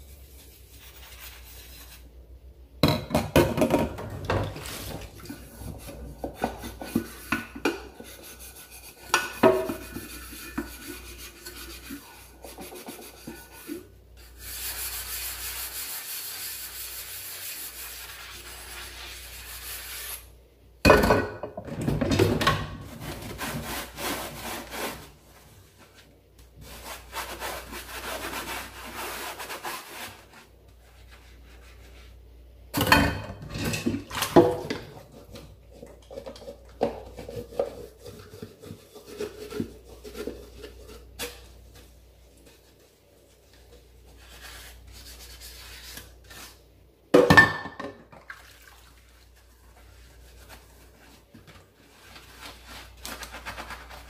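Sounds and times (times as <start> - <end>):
rubbing and scraping: 0.0 - 2.2, 4.5 - 20.3, 22.8 - 32.2, 34.8 - 46.6, 49.2 - 54.0.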